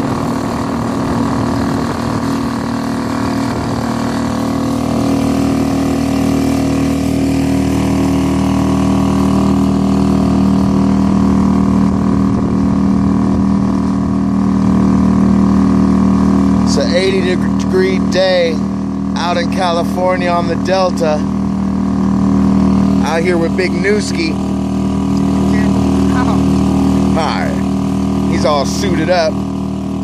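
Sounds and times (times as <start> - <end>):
outboard motor droning: 0.0 - 30.0.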